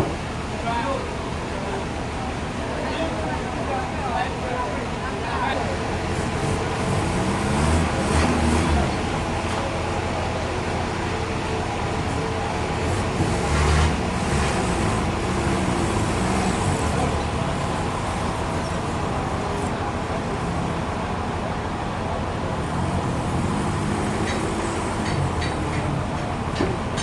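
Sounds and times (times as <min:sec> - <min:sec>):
sawmill machinery running: 0:00.0 - 0:27.0.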